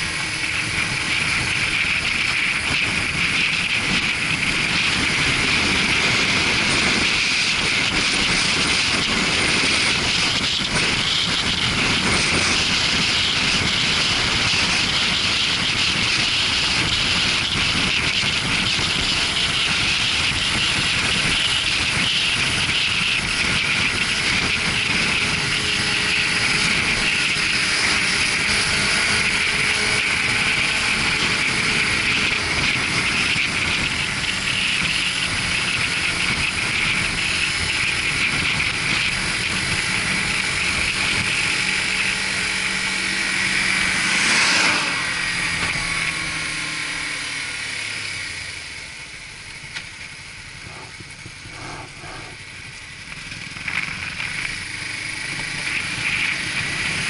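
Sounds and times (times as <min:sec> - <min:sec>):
wind noise: 0:00.0 - 0:48.6, 0:49.6 - 0:57.0
motorcycle engine running: 0:00.0 - 0:57.0.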